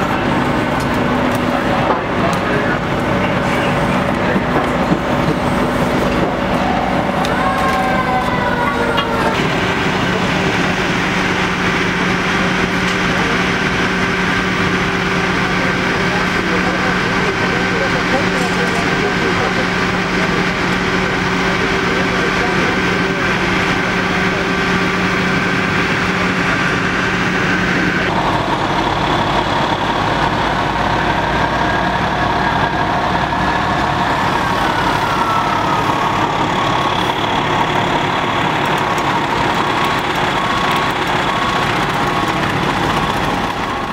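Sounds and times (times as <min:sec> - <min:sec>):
diesel engines droning: 0:00.0 - 0:43.9
steady whine: 0:00.0 - 0:43.9.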